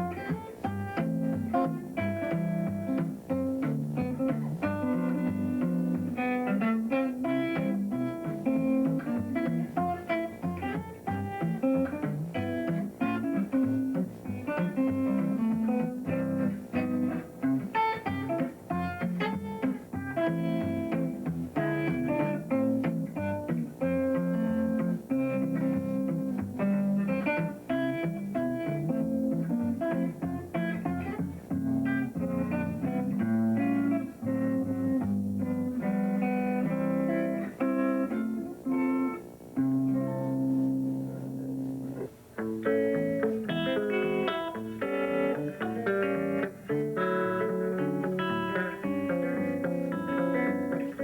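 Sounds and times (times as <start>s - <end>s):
thumbpicked guitar: 0.0s - 51.0s.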